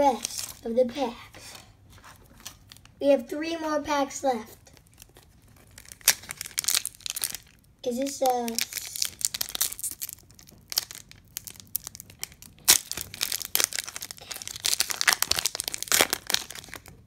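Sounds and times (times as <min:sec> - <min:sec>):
foil wrapper crinkling and tearing: 0:00.0 - 0:00.7, 0:02.0 - 0:03.0, 0:04.7 - 0:17.0.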